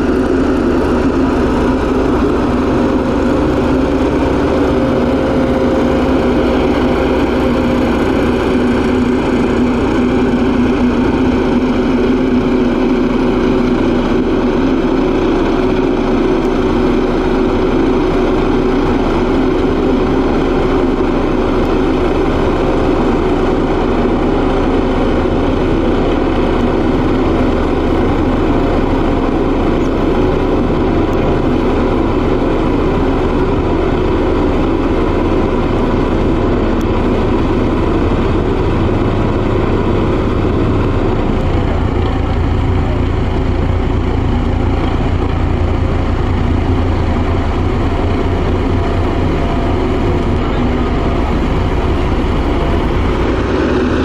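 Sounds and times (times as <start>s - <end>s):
road roller diesel engine: 0.0s - 54.0s.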